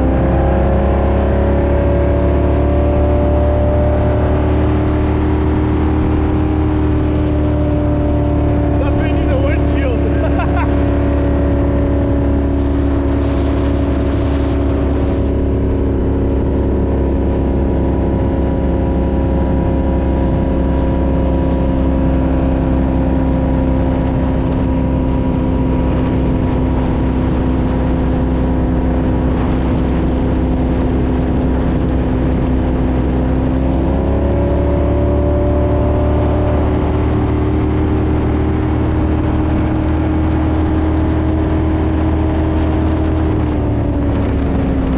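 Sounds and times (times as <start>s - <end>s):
rumble of wind and water: 0.0s - 44.9s
speedboat engine running: 0.0s - 44.9s.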